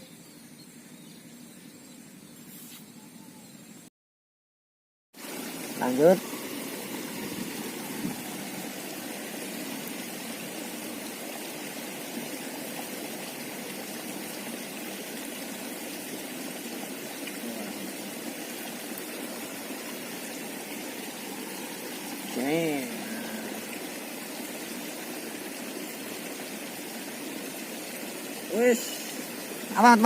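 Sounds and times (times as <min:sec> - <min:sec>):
stream water rushing: 0:05.2 - 0:30.0.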